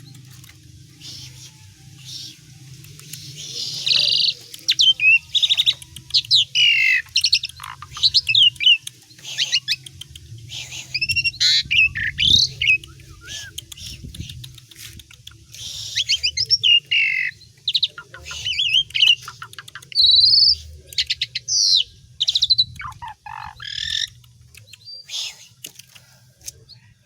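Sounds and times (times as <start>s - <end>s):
starling singing whistles and squawks: 0.9s - 14.5s, 15.5s - 25.6s.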